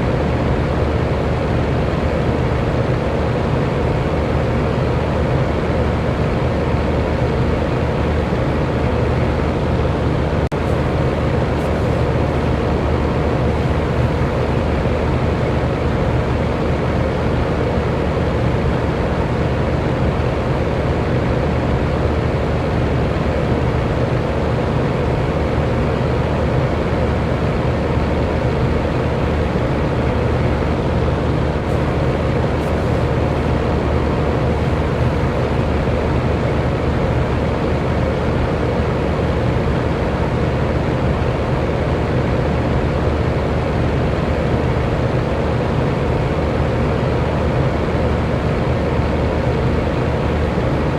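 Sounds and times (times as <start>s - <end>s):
electric fan running: 0.0s - 50.9s.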